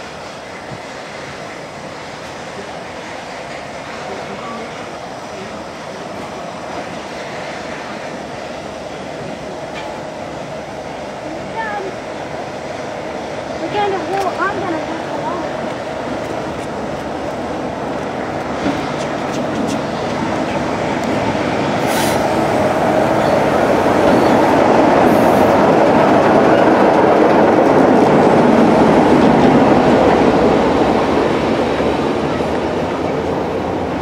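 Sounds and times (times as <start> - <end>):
diesel locomotive engine: 0.0 - 34.0
wheels rumbling on rail: 0.0 - 34.0.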